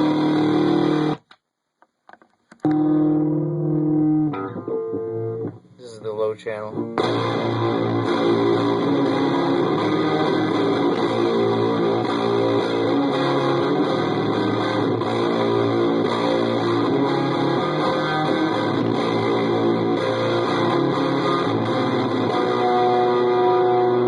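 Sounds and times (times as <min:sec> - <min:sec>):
distorted electric guitar strumming: 0:00.0 - 0:01.3, 0:02.6 - 0:24.0.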